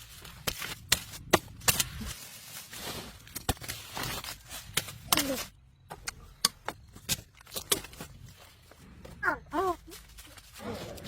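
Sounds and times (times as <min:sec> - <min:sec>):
rustling: 0:00.0 - 0:05.6, 0:06.5 - 0:11.0.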